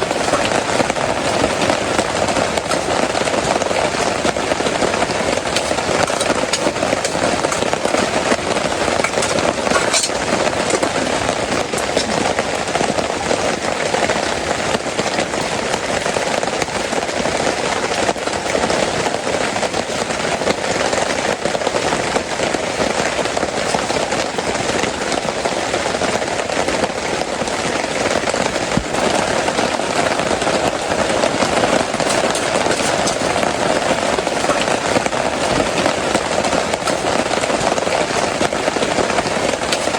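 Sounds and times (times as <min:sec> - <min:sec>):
heavy rain on an awning: 0:00.0 - 0:39.9.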